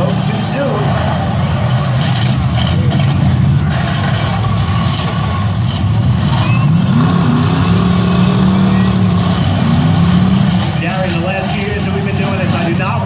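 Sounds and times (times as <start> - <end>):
car engine revving: 0.0 - 13.0
car engines running loudly: 0.0 - 13.0.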